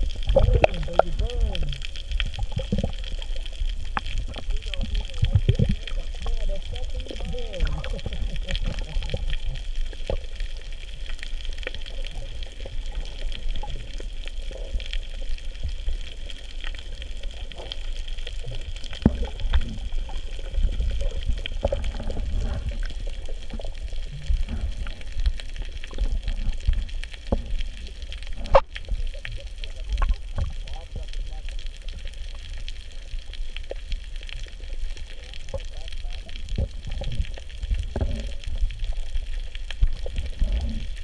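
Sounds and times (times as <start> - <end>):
bubbling surges: 0.0 - 41.0
underwater water rumbling: 0.0 - 41.0.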